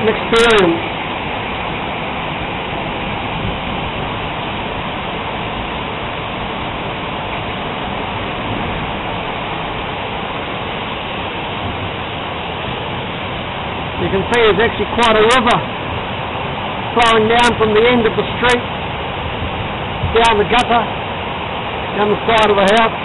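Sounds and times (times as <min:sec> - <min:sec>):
heavy rain and hail: 0:00.0 - 0:23.0.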